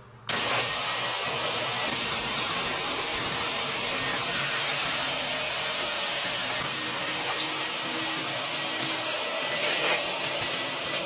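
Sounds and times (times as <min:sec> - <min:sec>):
vacuum cleaner running: 0:00.3 - 0:11.0.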